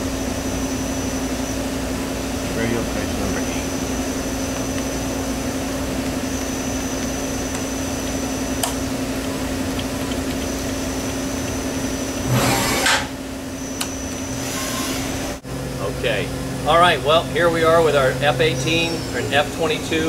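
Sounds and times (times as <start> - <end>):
milling machine humming: 0.0 - 20.0.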